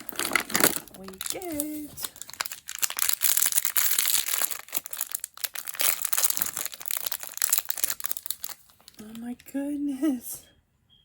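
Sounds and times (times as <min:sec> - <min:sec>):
plastic wrapper crackling: 0:00.0 - 0:09.6.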